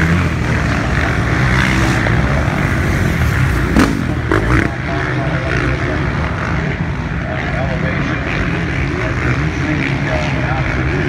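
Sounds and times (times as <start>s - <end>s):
dirt bike engines droning: 0.0s - 11.0s.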